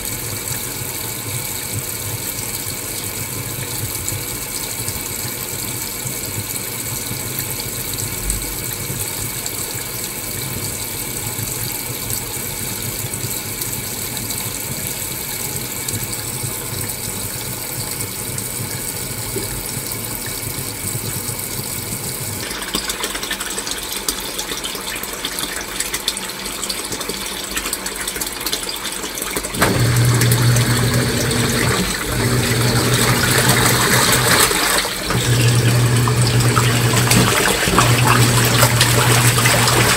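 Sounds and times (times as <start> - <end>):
washing machine whirring: 0.0 - 39.9.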